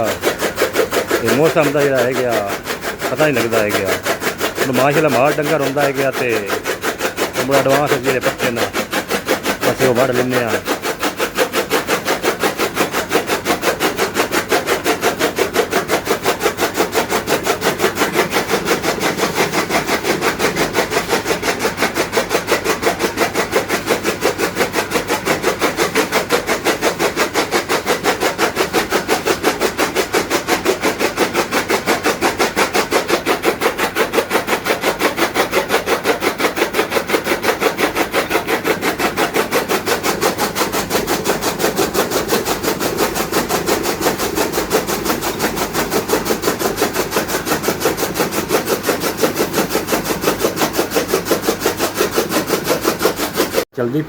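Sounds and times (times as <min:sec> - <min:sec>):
chaff cutter blades chopping fodder: 0:00.0 - 0:53.8.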